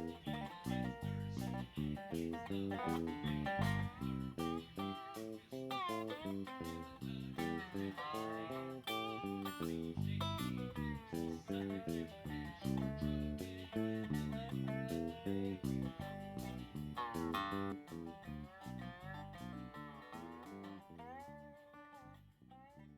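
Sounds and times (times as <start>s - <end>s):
plucked guitar music: 0.0s - 22.9s.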